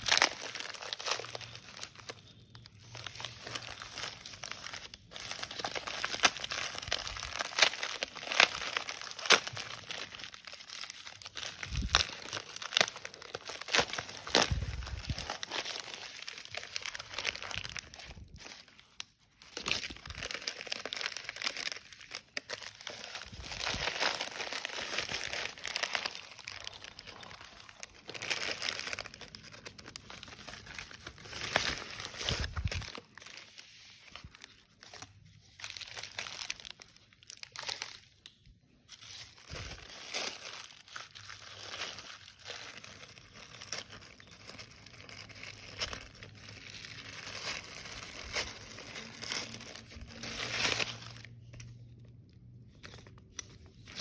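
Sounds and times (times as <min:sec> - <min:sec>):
packaging tearing: 0:00.0 - 0:33.5, 0:39.0 - 0:51.9
packaging crinkling and rustling: 0:00.0 - 0:54.0.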